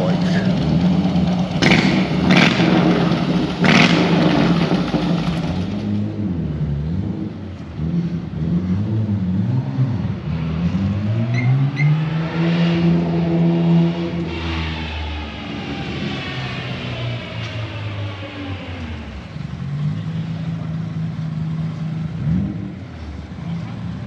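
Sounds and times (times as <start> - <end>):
vehicle engine revving: 0.0 - 24.0.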